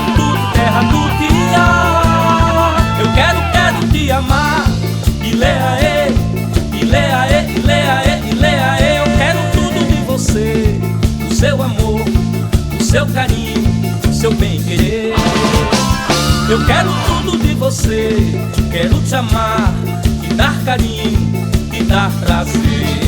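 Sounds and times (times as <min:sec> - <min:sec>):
upbeat band music: 0:00.0 - 0:23.0.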